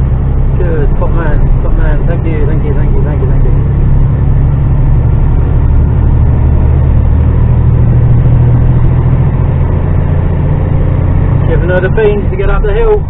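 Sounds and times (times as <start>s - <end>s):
lorry diesel engine droning: 0.0s - 13.0s.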